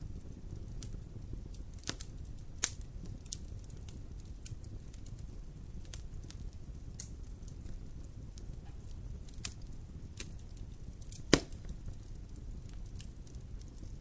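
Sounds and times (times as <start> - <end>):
loud pop of fire: 0.0 - 14.0
low rumble of flames: 0.0 - 14.0
wood fire crackling: 0.0 - 14.0.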